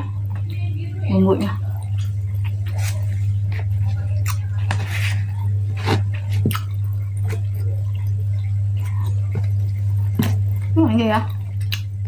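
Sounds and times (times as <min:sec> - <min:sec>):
steady low hum: 0:00.0 - 0:12.0
chewing and mouth sounds: 0:01.5 - 0:12.0.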